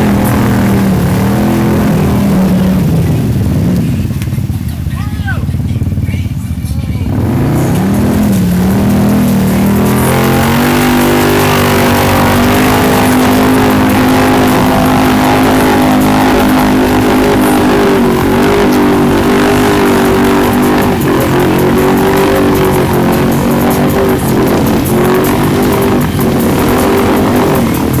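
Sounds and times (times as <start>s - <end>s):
engine revving high: 0.0s - 4.2s, 7.0s - 28.0s.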